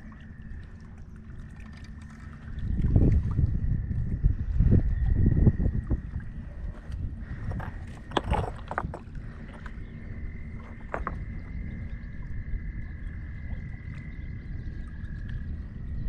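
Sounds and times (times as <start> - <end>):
frogs trilling: 0.0 - 16.0
wind rumble on microphone: 0.0 - 16.0.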